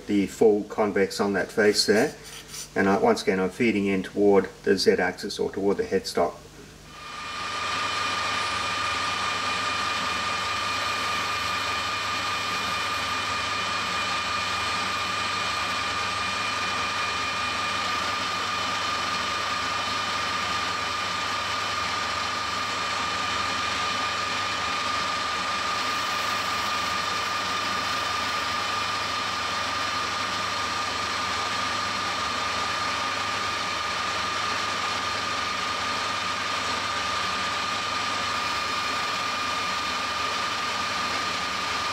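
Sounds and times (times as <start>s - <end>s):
metal lathe whining: 6.9s - 41.9s
lathe tool cutting aluminium: 7.0s - 41.9s.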